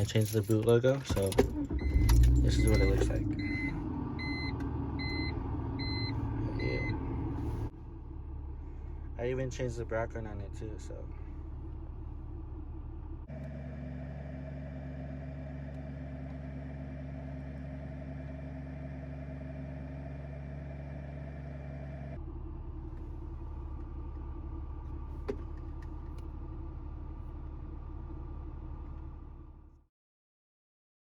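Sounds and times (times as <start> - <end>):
car engine idling: 0.0 - 29.8.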